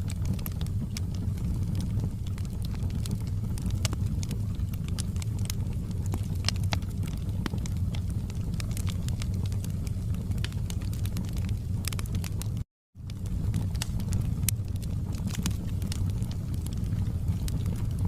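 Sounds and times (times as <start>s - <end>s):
low rush of flames: 0.0s - 18.0s
wood crackling and popping: 0.0s - 18.0s.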